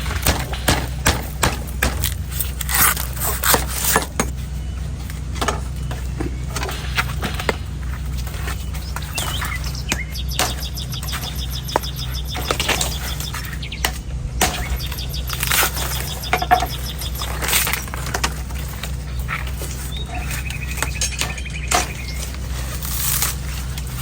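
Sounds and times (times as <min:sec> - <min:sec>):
birds chirping: 0:00.0 - 0:24.0
knife hacking coconut husk: 0:00.0 - 0:24.0
steady low hum: 0:00.0 - 0:24.0
bird trilling: 0:02.0 - 0:24.0.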